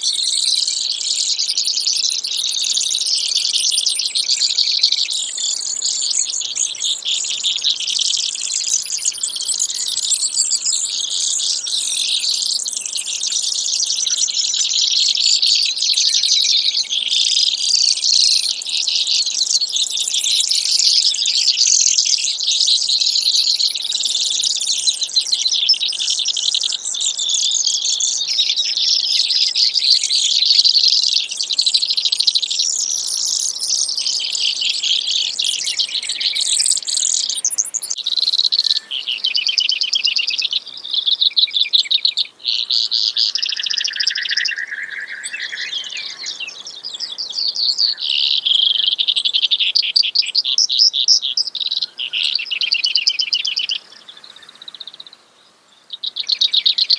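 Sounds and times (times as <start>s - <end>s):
sparrow high-pitched trills: 0.0s - 55.2s.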